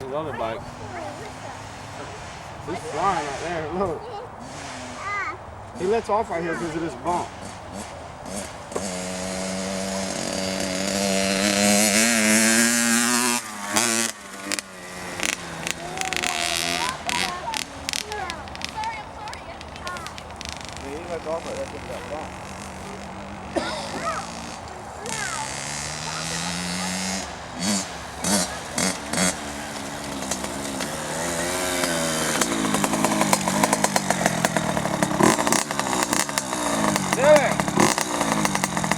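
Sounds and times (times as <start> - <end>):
dirt bike engine under throttle: 0.0 - 38.9.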